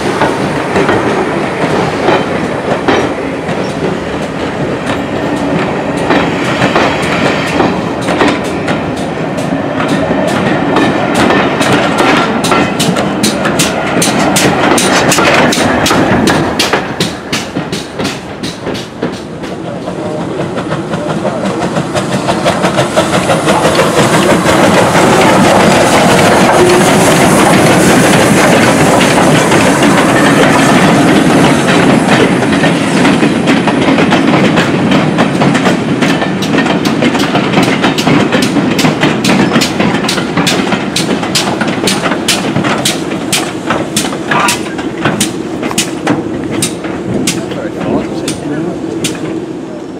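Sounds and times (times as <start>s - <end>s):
wheels clicking over rail joints: 0.0s - 49.4s
locomotive rushing past: 0.0s - 49.9s.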